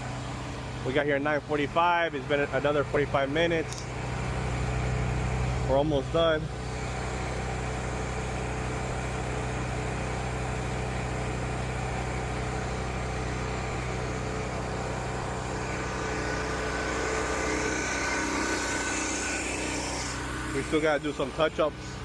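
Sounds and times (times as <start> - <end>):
pressure washer engine hum: 0.0 - 22.0.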